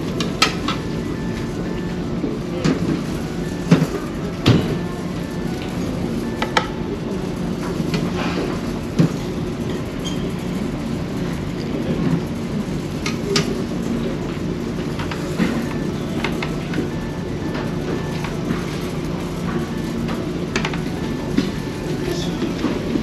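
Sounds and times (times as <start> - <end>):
ship engines droning: 0.0 - 23.0.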